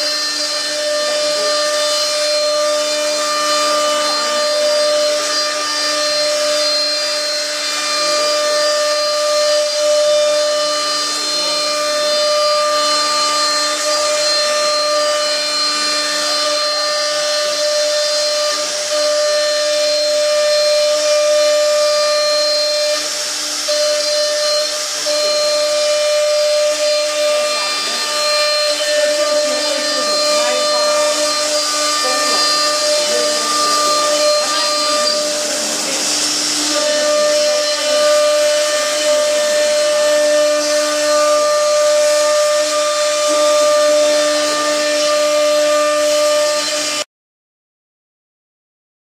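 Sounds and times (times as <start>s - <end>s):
router spindle motor whine: 0.0s - 47.1s.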